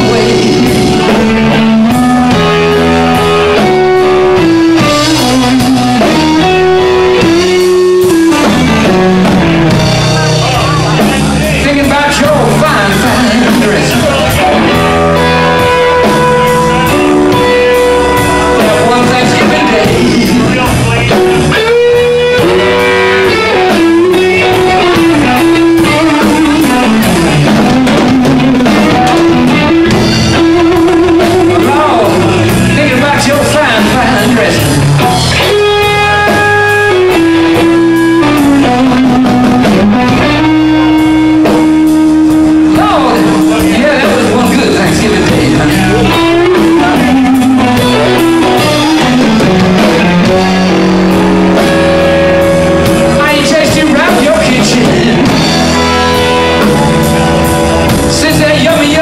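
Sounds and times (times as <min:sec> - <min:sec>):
amplified electric guitars: 0:00.0 - 0:59.0
drum kit: 0:00.0 - 0:59.0
steady bass: 0:00.0 - 0:59.0.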